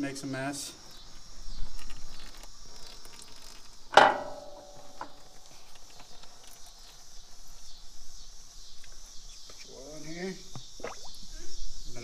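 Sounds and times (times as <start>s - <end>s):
steady high-pitched hiss: 0.0s - 12.0s.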